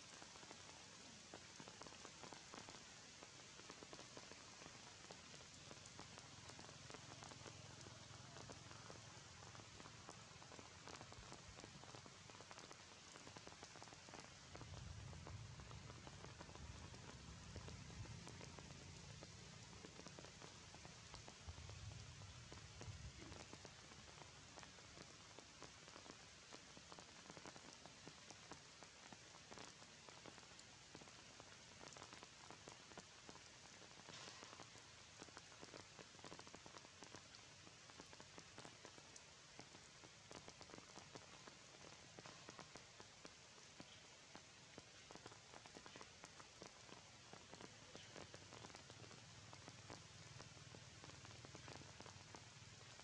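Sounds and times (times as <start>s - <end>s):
rain falling in trees: 0.0s - 53.0s.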